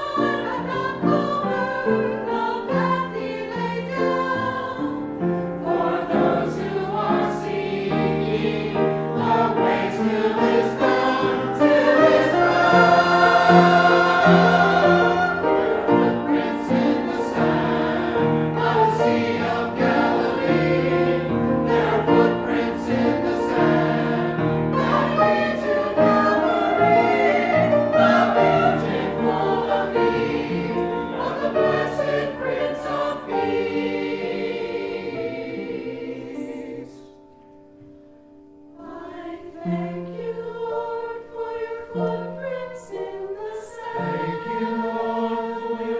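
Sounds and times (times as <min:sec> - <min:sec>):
choir singing: 0:00.0 - 0:37.5, 0:38.7 - 0:45.9.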